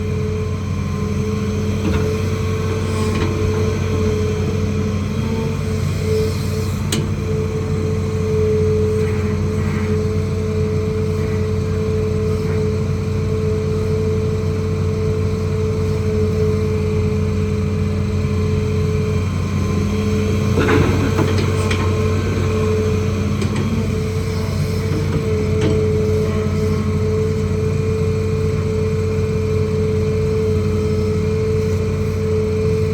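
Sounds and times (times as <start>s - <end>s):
excavator diesel engine: 0.0s - 32.9s.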